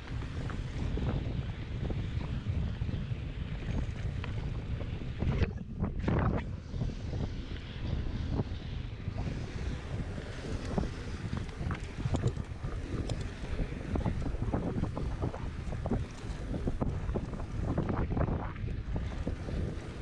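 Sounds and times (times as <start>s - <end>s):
bike rattling: 0.0s - 20.0s
bike tyres rumbling: 0.0s - 20.0s
wind buffeting microphone: 0.0s - 20.0s.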